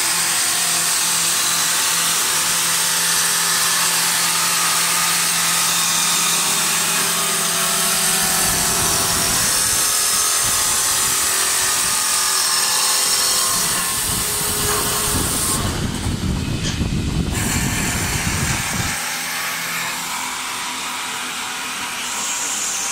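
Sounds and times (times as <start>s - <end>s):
lathe cutter hissing on wood: 0.0s - 22.9s
machine running noise: 0.0s - 22.9s.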